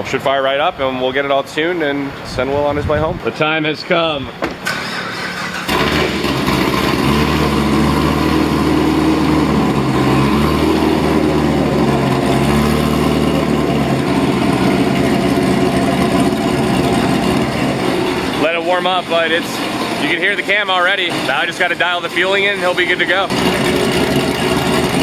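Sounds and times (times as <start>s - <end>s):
car engine idling: 4.4s - 25.0s.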